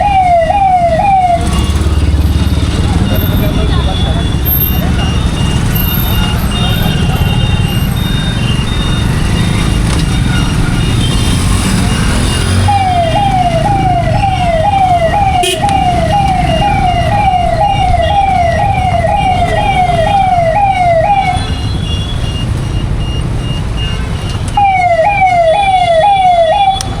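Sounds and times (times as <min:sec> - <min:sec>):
siren yelping: 0:00.0 - 0:21.6, 0:24.6 - 0:27.0
road traffic rumble: 0:00.0 - 0:27.0.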